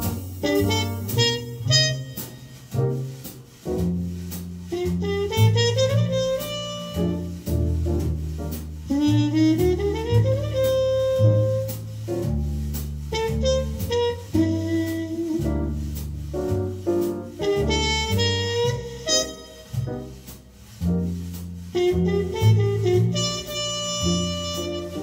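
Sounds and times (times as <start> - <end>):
horn melody: 0.0 - 12.4, 13.0 - 25.0
cymbals: 0.0 - 25.0
piano: 0.0 - 25.0
walking double bass: 0.0 - 25.0.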